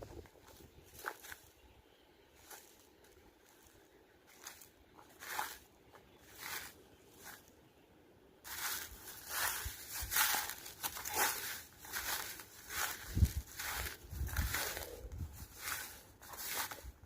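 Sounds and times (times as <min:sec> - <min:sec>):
continuous crunching and crackling: 0:00.0 - 0:01.7, 0:02.3 - 0:07.6, 0:08.4 - 0:17.0
footsteps crunching on ground: 0:00.0 - 0:01.7, 0:02.3 - 0:07.6, 0:08.4 - 0:17.0.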